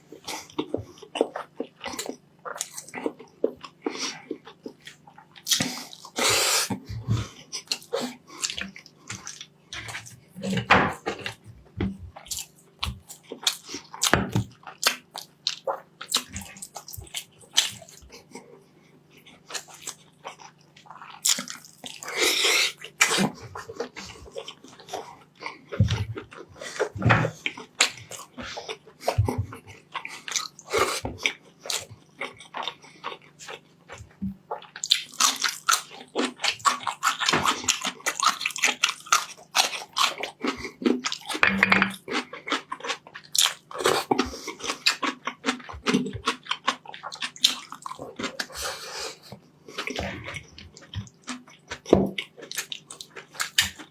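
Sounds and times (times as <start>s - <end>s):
wet chewing and mouth smacking: 0.1s - 53.9s.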